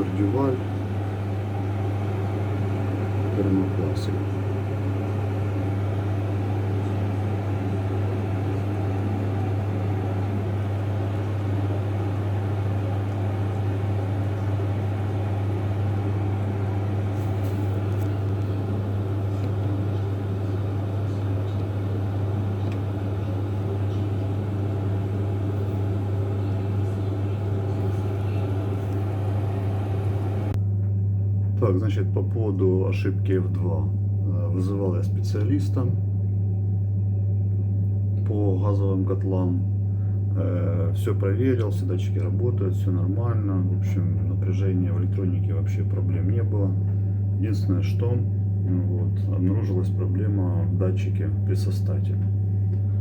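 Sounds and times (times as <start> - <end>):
gas boiler humming: 0.0 - 53.0.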